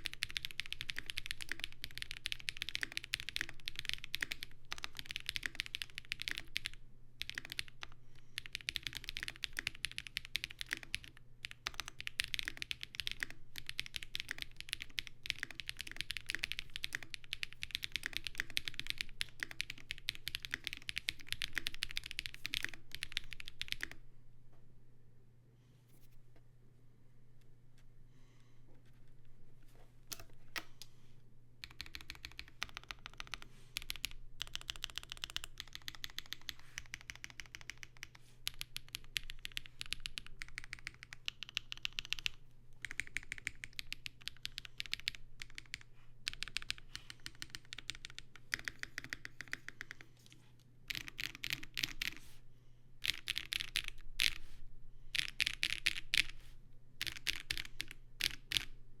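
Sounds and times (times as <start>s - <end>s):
mechanical keyboard typing: 0.0s - 24.0s, 31.6s - 50.0s, 50.9s - 52.2s, 53.0s - 54.4s, 55.1s - 56.4s, 57.0s - 58.7s.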